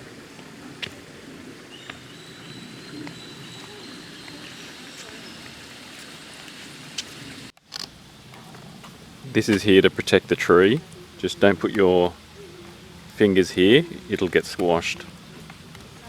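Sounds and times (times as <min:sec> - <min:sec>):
footsteps on walkway: 0:00.0 - 0:16.0
rainforest hiss: 0:00.0 - 0:16.0.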